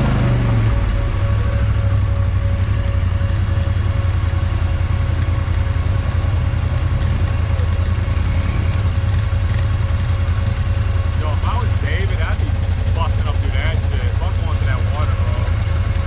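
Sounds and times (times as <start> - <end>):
vehicle engine running: 0.0 - 16.0
faint whine: 0.4 - 16.0.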